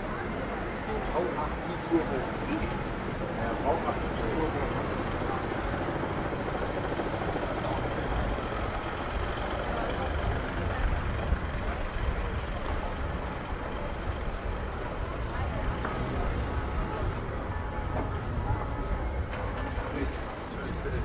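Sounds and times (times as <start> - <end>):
city street traffic: 0.0 - 21.0
heavy vehicle engine rumbling: 0.0 - 21.0.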